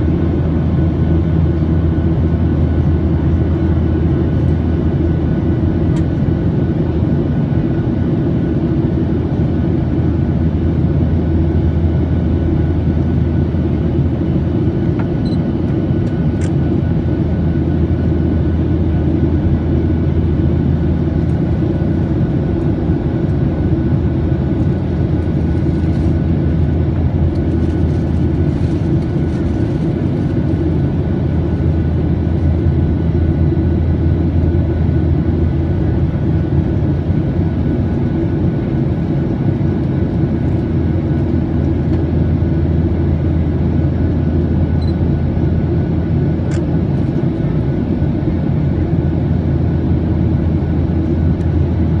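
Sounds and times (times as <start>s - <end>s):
airflow over fuselage: 0.0s - 52.0s
faint steady whine: 0.0s - 52.0s
jet engine roar in cabin: 0.0s - 52.0s.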